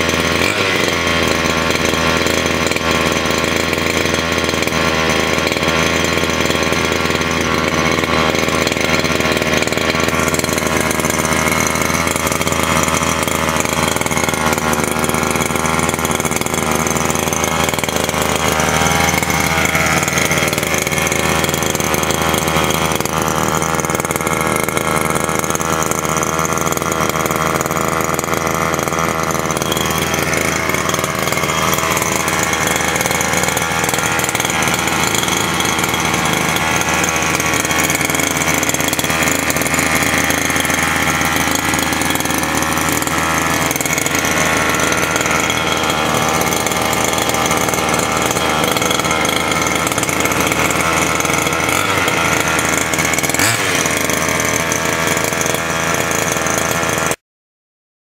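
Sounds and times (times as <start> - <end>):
two-stroke engine running: 0.0 - 57.2.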